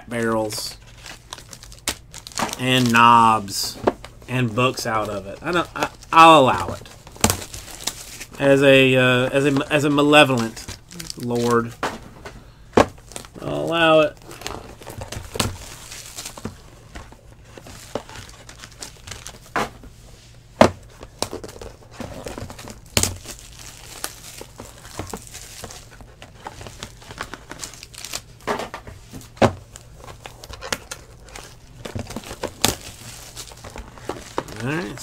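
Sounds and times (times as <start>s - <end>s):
cellophane crinkling and tearing: 0.3s - 11.8s, 12.9s - 19.6s, 20.8s - 35.0s.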